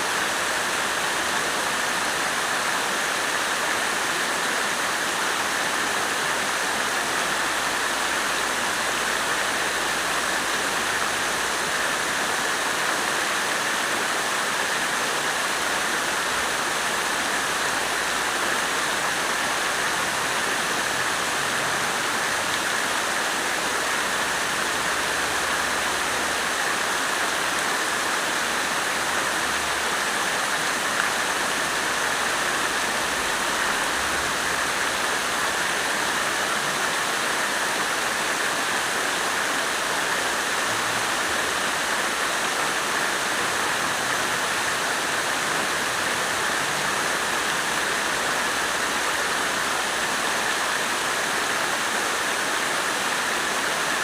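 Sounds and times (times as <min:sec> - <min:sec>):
water fountain splashing: 0:00.0 - 0:54.0.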